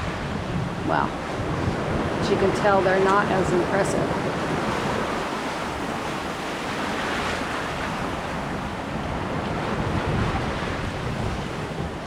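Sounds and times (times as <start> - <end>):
choppy water washing around boat: 0.0 - 12.0
wind on microphone: 0.0 - 12.0.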